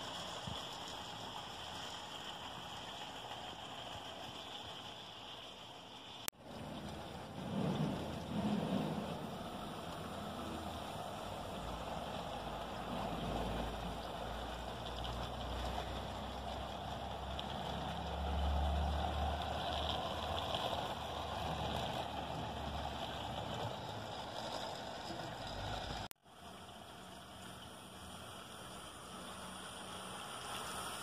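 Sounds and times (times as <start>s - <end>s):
model train rumbling over bridge: 0.0s - 26.1s
trickling water: 0.0s - 31.0s.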